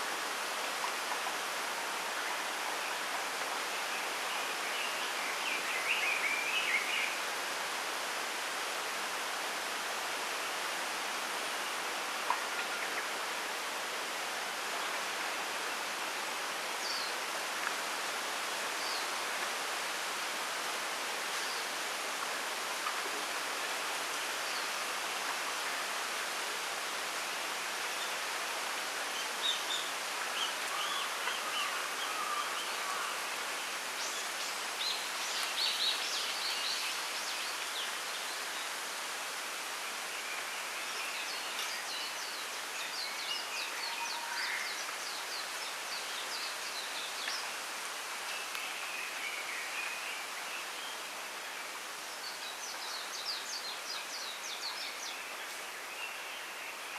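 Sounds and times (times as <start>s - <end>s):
wind rustling bamboo leaves: 0.0s - 56.9s.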